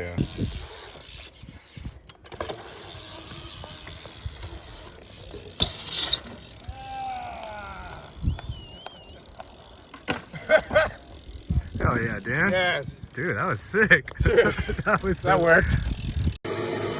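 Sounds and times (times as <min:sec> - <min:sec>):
bike rear hub ticking: 0:00.2 - 0:12.7, 0:14.1 - 0:16.4.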